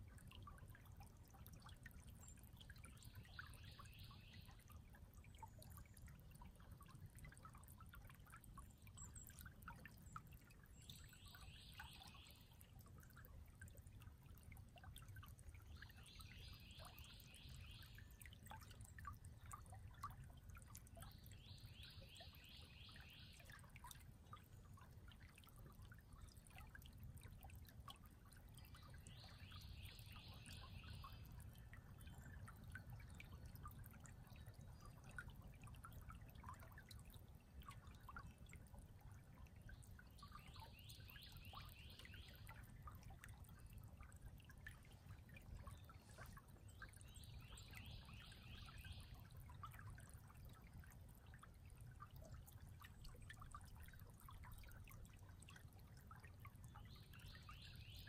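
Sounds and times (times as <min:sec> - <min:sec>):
creek water babbling: 0:00.0 - 0:58.0
water drips and splashes: 0:00.0 - 0:58.0.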